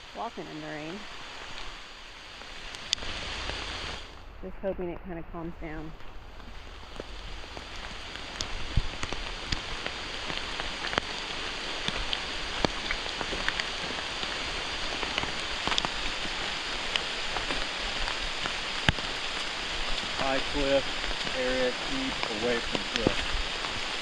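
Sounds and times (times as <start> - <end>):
raindrops tapping close by: 0.0 - 5.2, 5.9 - 24.0
steady rain in woods: 0.0 - 24.0.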